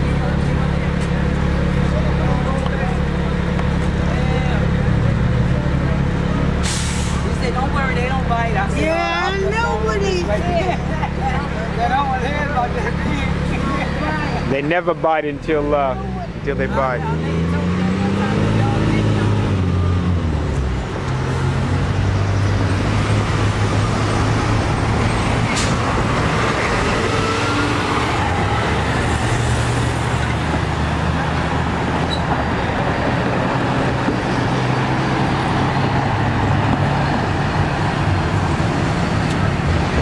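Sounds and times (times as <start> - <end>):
traffic noise: 0.0 - 40.0
vehicle engines running: 0.0 - 40.0.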